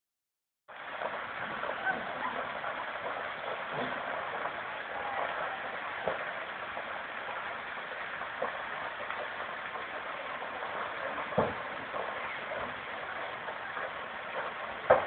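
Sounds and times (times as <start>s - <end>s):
fire popping: 0.7s - 15.0s
large fire burning: 0.7s - 15.0s.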